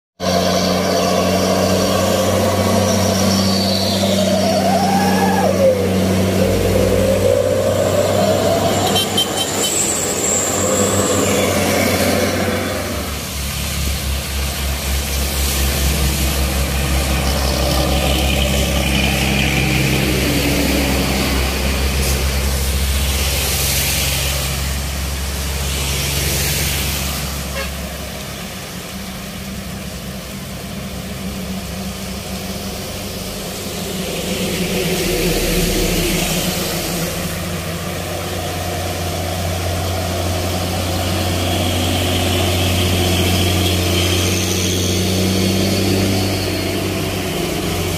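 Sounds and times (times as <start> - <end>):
truck diesel engines droning: 0.2 - 47.9
tyres on wet road: 0.2 - 47.9
heavy rain hiss: 1.0 - 47.9.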